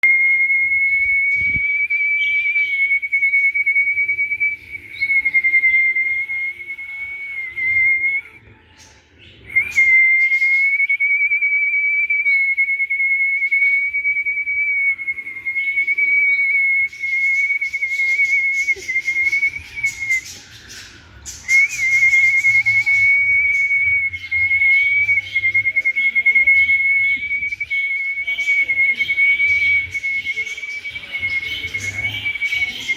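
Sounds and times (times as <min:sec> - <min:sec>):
high whistling tone: 0:00.0 - 0:08.4, 0:09.5 - 0:32.9.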